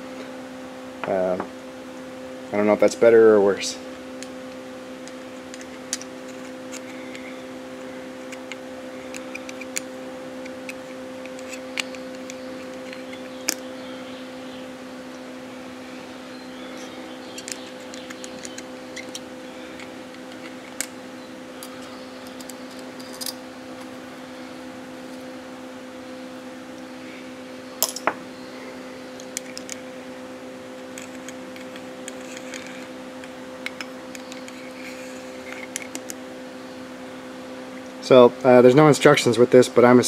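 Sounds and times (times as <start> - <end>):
steady electrical hum: 0.0 - 40.0.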